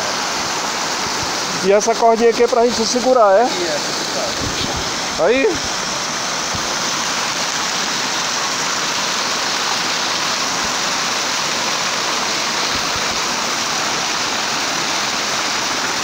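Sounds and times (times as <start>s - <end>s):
waterfall rushing over rock: 0.0s - 16.0s.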